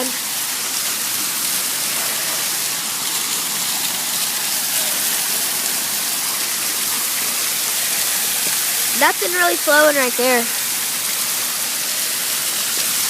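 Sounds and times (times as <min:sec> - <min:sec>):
waterfall splashing: 0:00.0 - 0:13.0.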